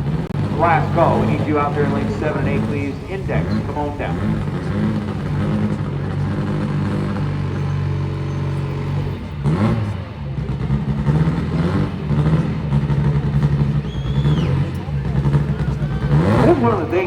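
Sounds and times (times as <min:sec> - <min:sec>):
drag car engine idling and revving: 0:00.0 - 0:17.0.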